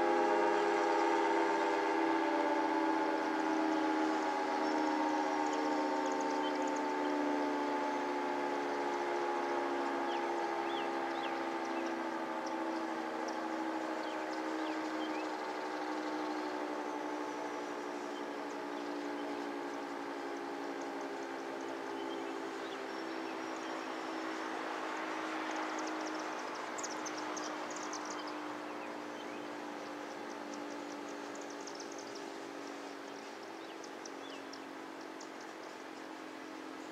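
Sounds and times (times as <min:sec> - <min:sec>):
warning siren winding down: 0:00.0 - 0:36.9.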